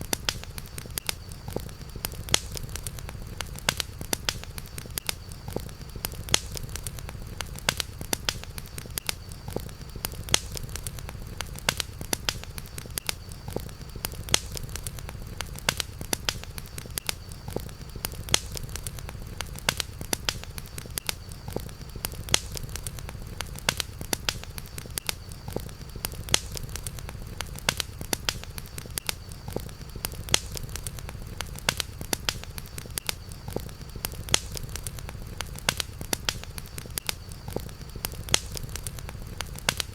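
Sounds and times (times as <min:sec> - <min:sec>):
campfire crackling: 0:00.0 - 0:39.9
sharp pops and snaps: 0:00.0 - 0:39.9.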